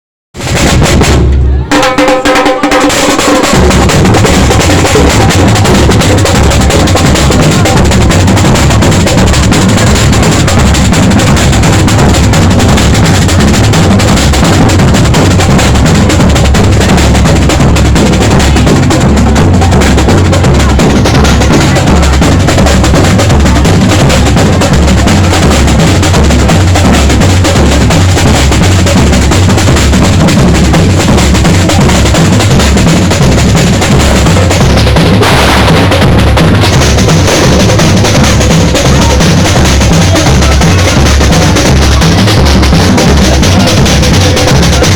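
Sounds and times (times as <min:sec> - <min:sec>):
bass and snare drums playing: 0:00.4 - 0:44.9.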